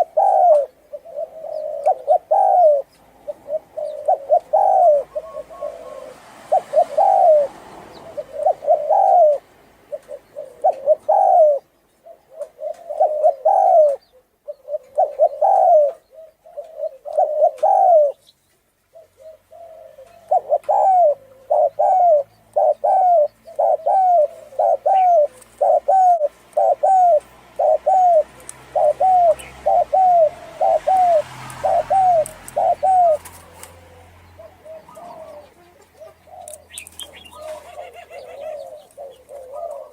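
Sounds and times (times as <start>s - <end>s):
dove cooing: 0.0s - 18.3s, 18.9s - 39.9s
small birds chirping: 0.0s - 39.9s.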